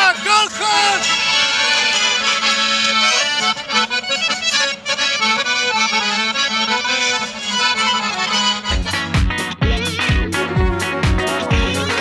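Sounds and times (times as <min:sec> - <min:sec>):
accordion folk dance music: 0:00.0 - 0:12.0.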